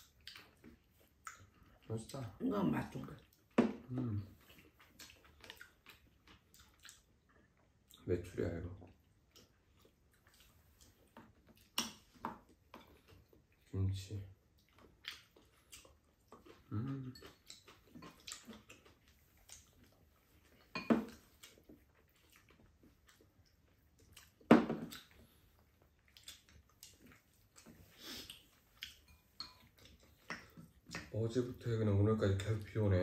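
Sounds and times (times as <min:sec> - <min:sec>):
chewing: 0:00.0 - 0:32.8.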